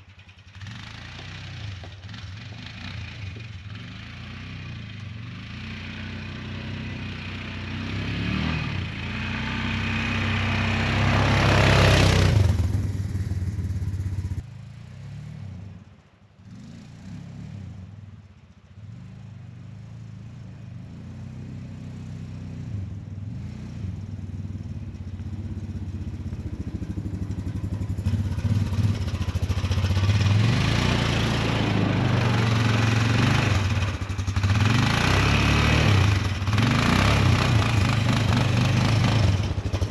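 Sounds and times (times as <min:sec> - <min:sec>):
engine running: 0:00.0 - 0:15.1, 0:15.7 - 0:39.9.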